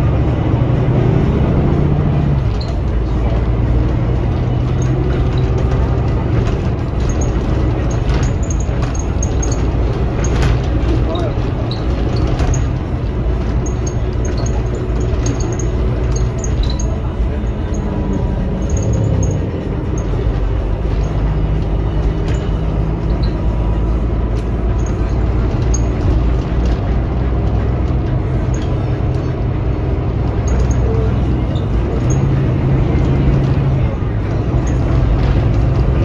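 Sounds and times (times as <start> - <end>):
bus diesel engine drone: 0.0 - 36.0
road noise: 0.0 - 36.0
interior rattles: 1.0 - 36.0.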